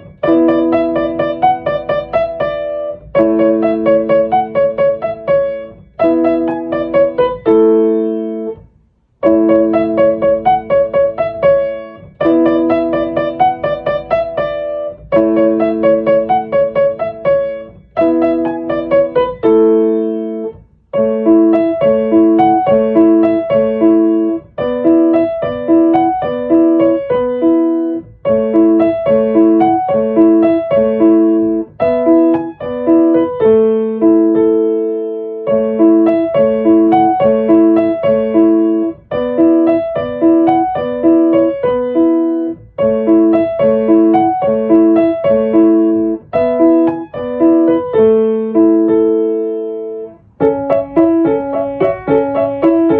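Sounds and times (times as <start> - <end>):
piano tune: 0.0 - 52.9.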